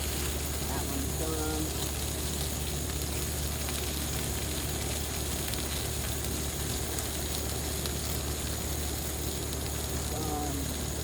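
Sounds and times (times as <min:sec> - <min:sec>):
grill hissing: 0:00.0 - 0:11.0
outdoor grill humming: 0:00.0 - 0:11.0.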